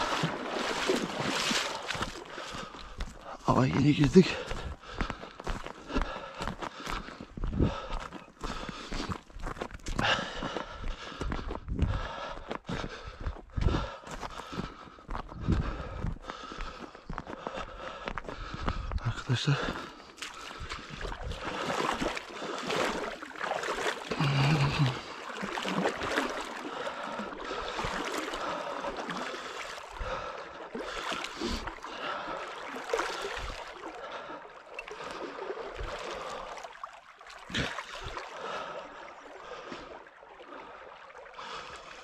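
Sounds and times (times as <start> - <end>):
stream water flowing: 0.0 - 11.2, 19.2 - 42.0
water splashing: 0.0 - 11.2, 19.5 - 42.0.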